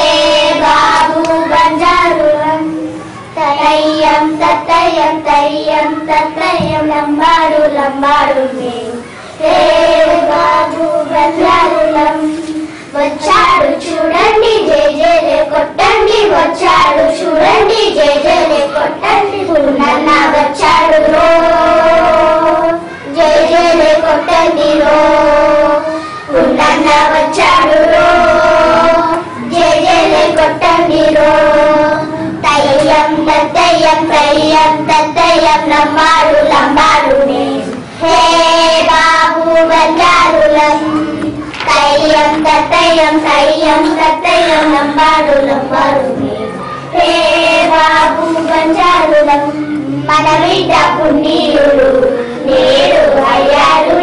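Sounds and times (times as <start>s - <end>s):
children singing: 0.0s - 54.0s.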